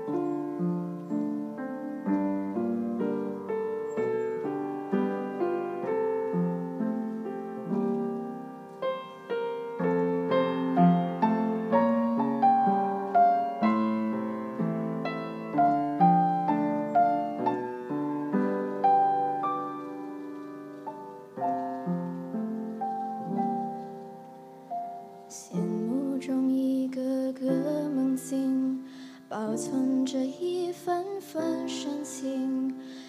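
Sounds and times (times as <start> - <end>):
piano melody over chords: 0.0 - 33.0.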